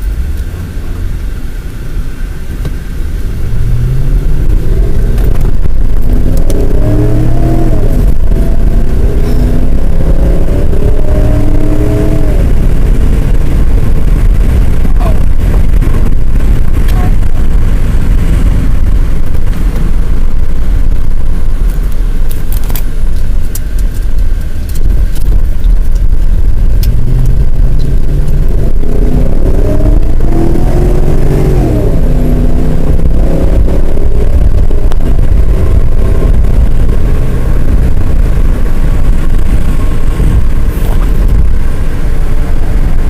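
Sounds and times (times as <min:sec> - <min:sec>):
wind rumble on microphone: 0:00.0 - 0:43.0
motorcycle engine accelerating: 0:03.2 - 0:43.0.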